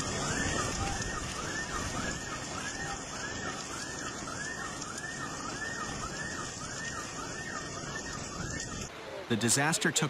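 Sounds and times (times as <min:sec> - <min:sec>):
car alarm whooping: 0:00.0 - 0:08.9
heavy rain hiss: 0:00.0 - 0:10.0.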